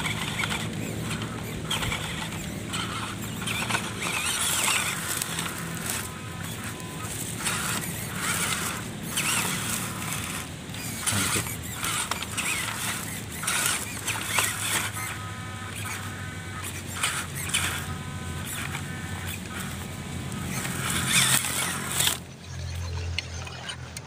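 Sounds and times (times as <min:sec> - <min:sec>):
electric motor whine: 0:00.0 - 0:24.0
tyres crackling through dry straw: 0:00.0 - 0:24.0.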